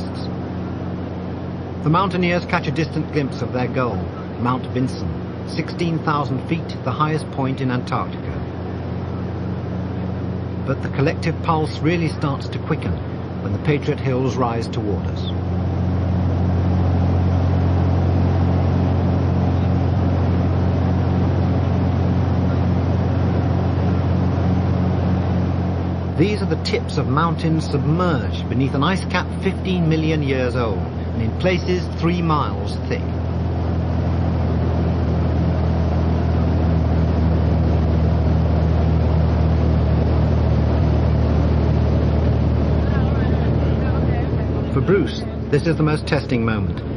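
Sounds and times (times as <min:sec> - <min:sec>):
propeller aircraft cabin drone: 0:00.0 - 0:46.9.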